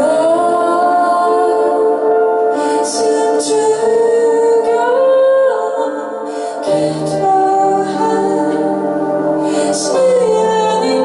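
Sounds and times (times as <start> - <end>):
electric keyboard chords: 0.0 - 11.0
woman singing long notes: 0.0 - 11.0.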